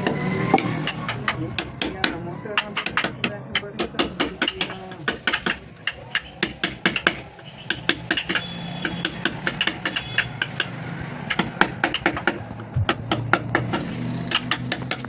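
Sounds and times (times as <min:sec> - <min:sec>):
hammer tapping on wood: 0:00.0 - 0:13.8.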